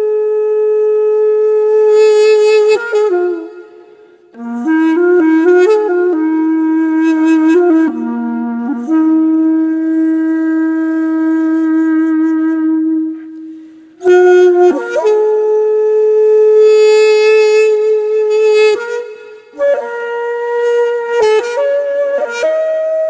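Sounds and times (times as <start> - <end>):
solo wind instrument: 0.0 - 23.0.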